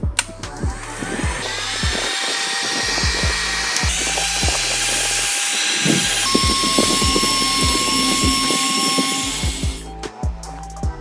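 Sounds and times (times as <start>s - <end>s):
background music with beat: 0.0s - 11.0s
heat gun blowing air: 0.8s - 9.9s.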